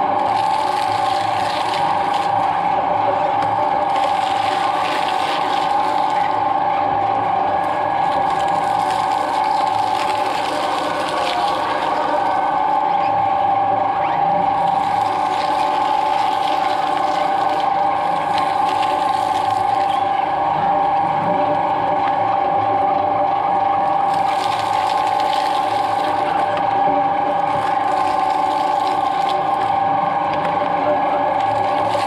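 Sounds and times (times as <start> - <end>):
shredder motor whine: 0.0 - 32.0.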